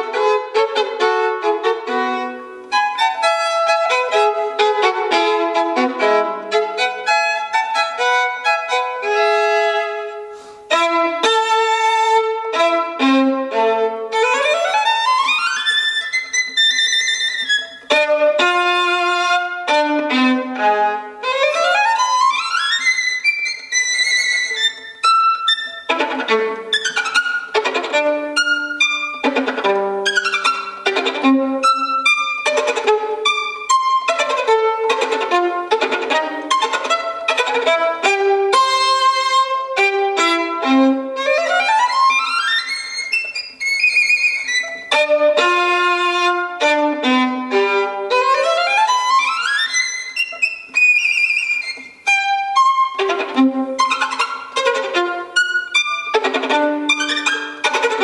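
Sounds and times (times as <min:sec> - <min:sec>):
solo violin fast passage: 0:00.0 - 0:58.0.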